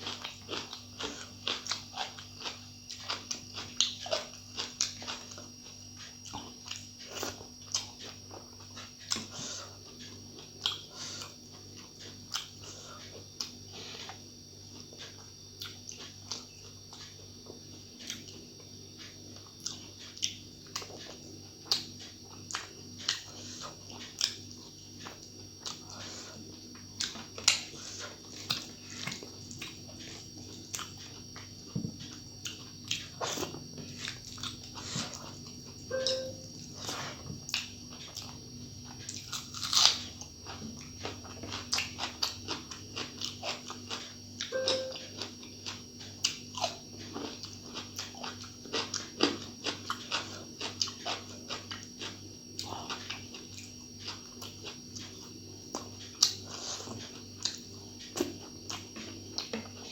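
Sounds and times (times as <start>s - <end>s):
chewing with wet mouth clicks: 0.0s - 59.9s
faint steady hum: 0.0s - 59.9s.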